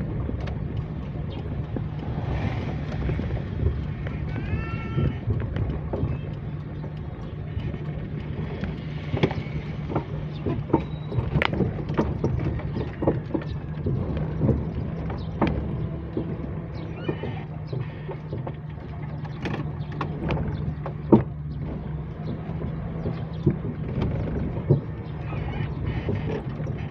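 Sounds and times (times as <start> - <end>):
vehicle engine running: 0.0 - 26.9
vehicle rattles and knocks: 0.0 - 26.9.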